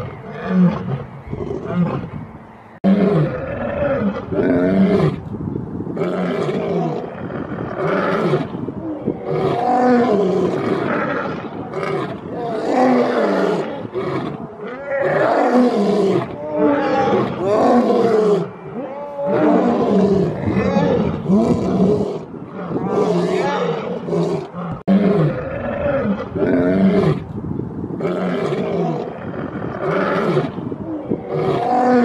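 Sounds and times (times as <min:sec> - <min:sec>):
lion roaring: 0:02.8 - 0:05.2, 0:06.0 - 0:27.3, 0:28.0 - 0:32.0.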